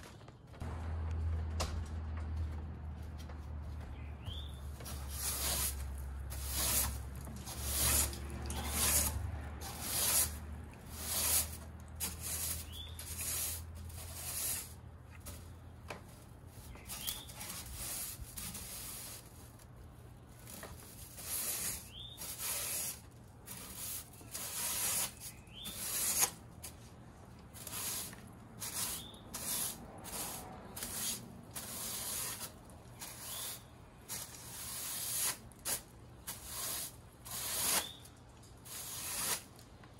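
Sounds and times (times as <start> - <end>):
broom sweeping soil on wooden deck: 3.9 - 39.7.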